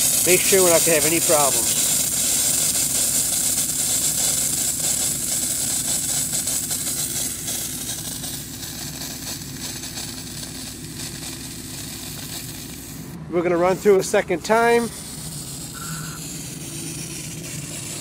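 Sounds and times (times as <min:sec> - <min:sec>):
air compressor engine hum: 0:00.0 - 0:18.0
sprinkler hissing spray of air and water: 0:00.0 - 0:18.0.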